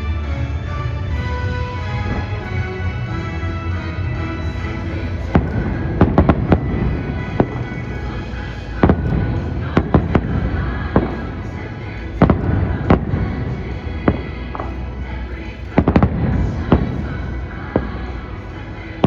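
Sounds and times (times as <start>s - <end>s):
show music: 0.0s - 19.0s
fireworks bangs: 1.1s - 18.6s.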